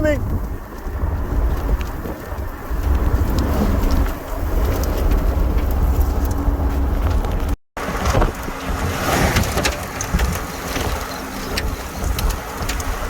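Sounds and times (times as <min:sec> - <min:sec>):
road noise inside vehicle: 0:00.0 - 0:13.0
storm wind buffeting: 0:00.0 - 0:13.0.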